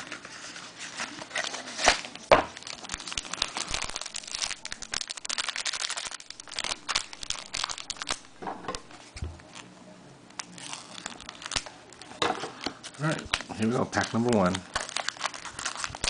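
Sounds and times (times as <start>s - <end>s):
plastic wrapping crinkling: 0.0s - 9.6s, 10.4s - 16.0s.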